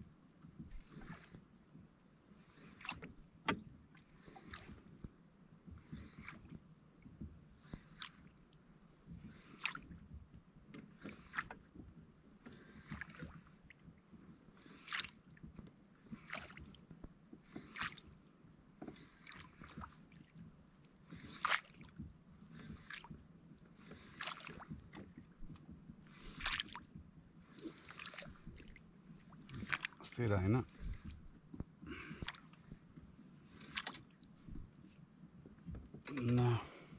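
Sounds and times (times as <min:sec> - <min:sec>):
low steady water wash: 0:00.0 - 0:36.9
water splashing against kayak: 0:00.0 - 0:36.9.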